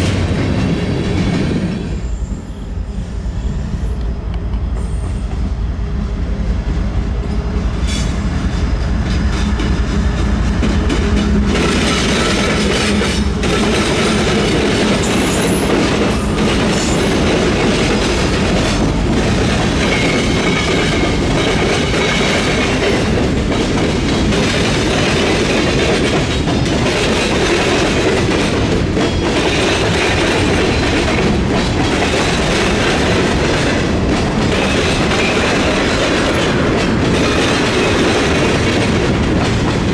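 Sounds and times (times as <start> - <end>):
train wheels clacking: 3.7 - 39.9.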